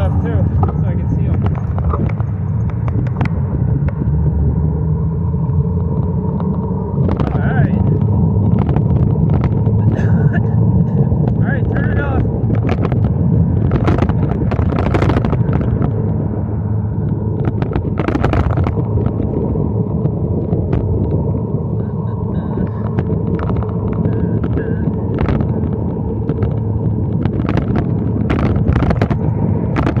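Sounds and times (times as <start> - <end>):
short crackles: 0.0 - 4.2, 5.4 - 16.2, 17.0 - 30.0
engine and road drone: 0.0 - 30.0.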